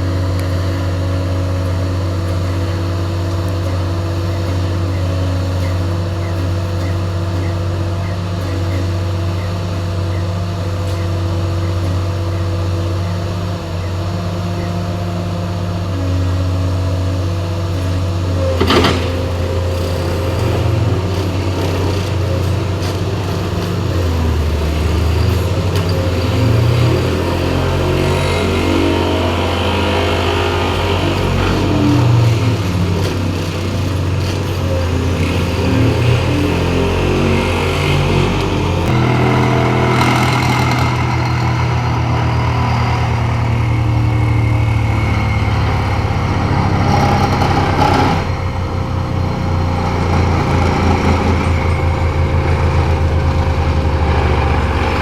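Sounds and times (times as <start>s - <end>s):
vehicle engines running: 0.0s - 55.0s.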